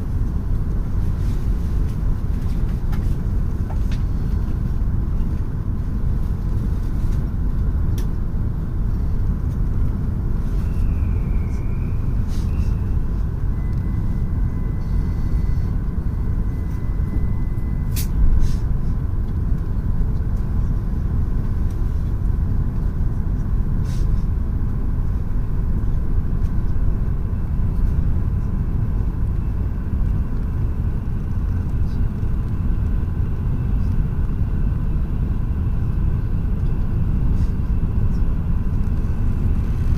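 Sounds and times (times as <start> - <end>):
faint train whine: 0.0 - 39.9
train rumbling at speed: 0.0 - 39.9.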